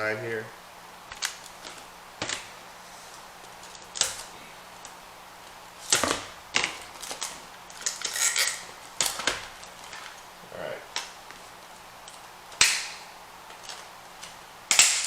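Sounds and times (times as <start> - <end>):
crackling plastic: 1.0 - 10.3, 10.9 - 15.0.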